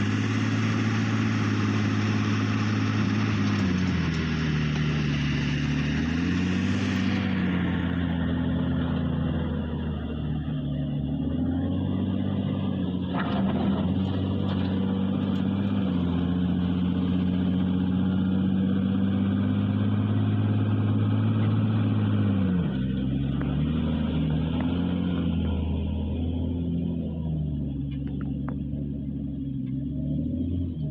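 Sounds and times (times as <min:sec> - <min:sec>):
backhoe diesel engine running: 0:00.0 - 0:30.9.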